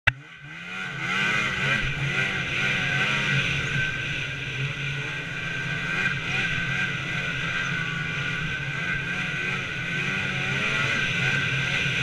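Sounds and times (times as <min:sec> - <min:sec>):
high engine whine: 0:00.1 - 0:12.0
snowmobile engine revving: 0:00.1 - 0:12.0.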